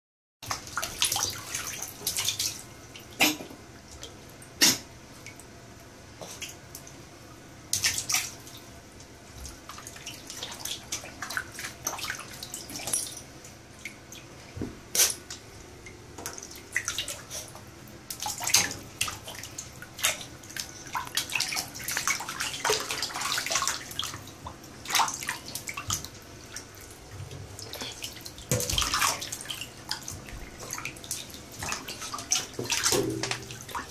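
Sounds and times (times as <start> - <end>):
puppy splashing in water: 0.4 - 5.4, 7.7 - 8.6, 9.4 - 13.2, 16.3 - 33.9.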